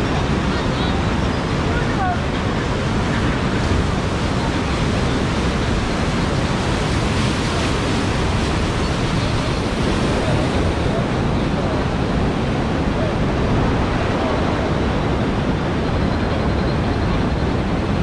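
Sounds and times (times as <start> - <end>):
rushing water of standing wave: 0.0 - 18.0.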